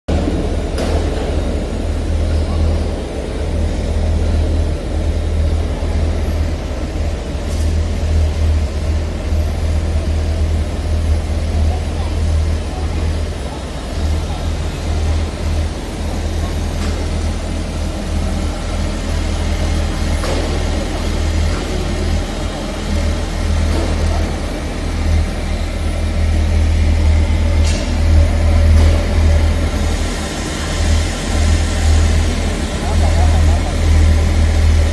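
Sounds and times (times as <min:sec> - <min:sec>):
steam boiler humming: 0:00.1 - 0:34.9.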